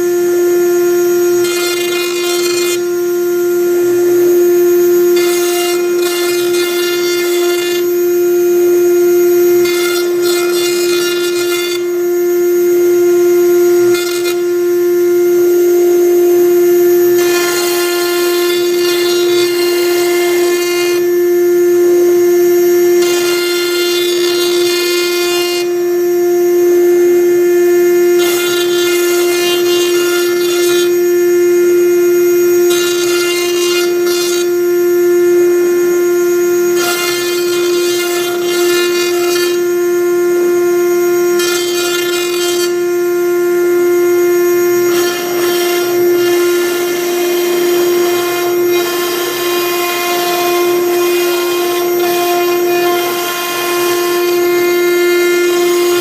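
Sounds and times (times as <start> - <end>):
router spindle whining: 0.0 - 56.0.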